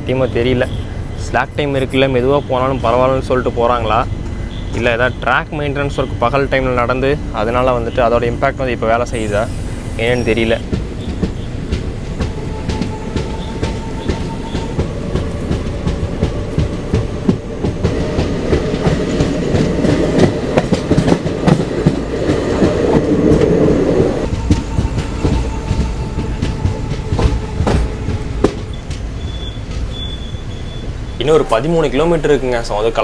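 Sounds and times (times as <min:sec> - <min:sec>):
train running rumble: 0:00.0 - 0:33.0
train wheels clicking over rail joints: 0:00.0 - 0:33.0.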